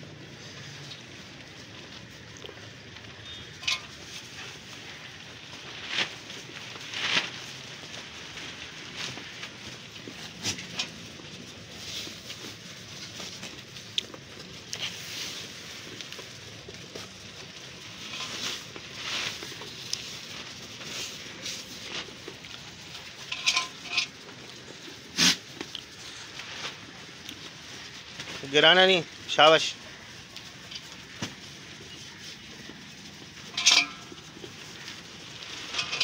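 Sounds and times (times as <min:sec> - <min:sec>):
goats eating grain: 0:00.0 - 0:36.0.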